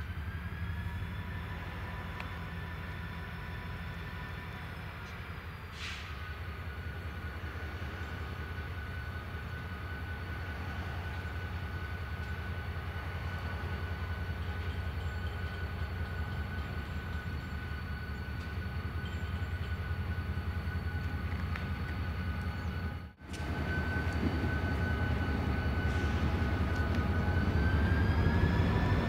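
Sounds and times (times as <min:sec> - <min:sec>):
diesel locomotive engine rumble: 0:00.0 - 0:29.0
thin whine: 0:00.0 - 0:29.0.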